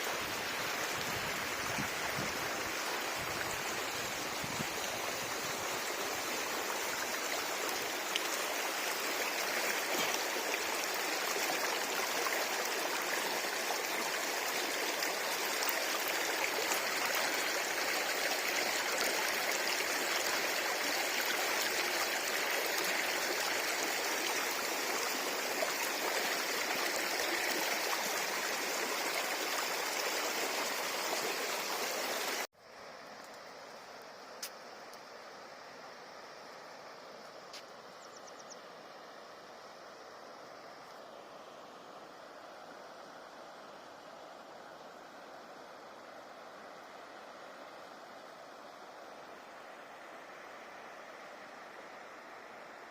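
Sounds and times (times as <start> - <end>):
river water rushing: 0.0 - 32.5, 38.7 - 52.9.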